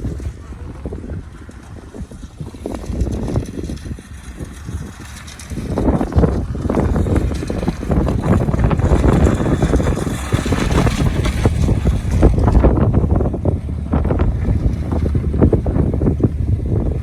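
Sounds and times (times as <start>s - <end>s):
bumps and rattles: 0.0s - 17.0s
snowmobile engine running: 0.0s - 17.0s
wind buffeting microphone: 0.0s - 17.0s.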